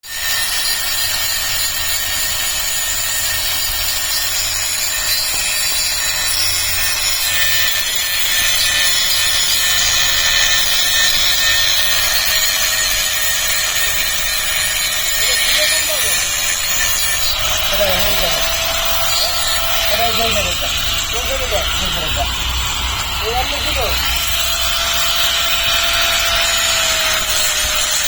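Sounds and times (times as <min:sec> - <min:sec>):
power tool polishing metal: 0:00.0 - 0:28.0.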